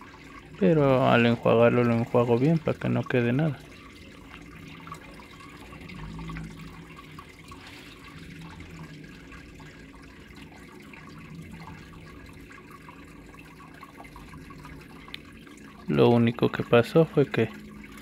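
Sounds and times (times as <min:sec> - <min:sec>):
aquarium water bubbling: 0:00.0 - 0:18.0.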